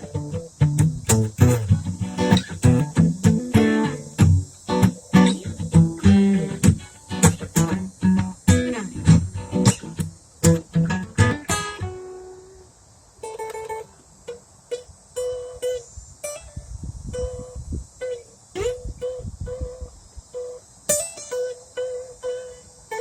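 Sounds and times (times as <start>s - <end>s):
guitar strumming: 0.0s - 23.0s.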